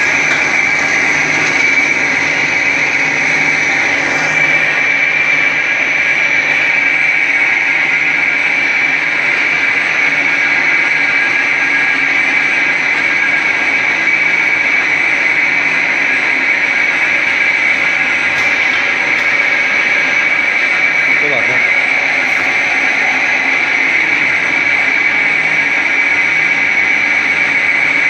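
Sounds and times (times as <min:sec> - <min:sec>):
machine running with high whine: 0:00.0 - 0:28.0.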